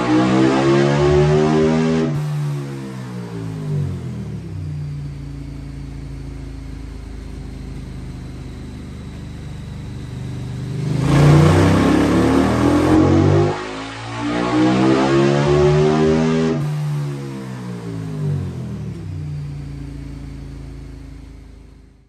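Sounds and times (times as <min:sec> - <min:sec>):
motorcycle engine revving on dyno: 0:00.0 - 0:22.0.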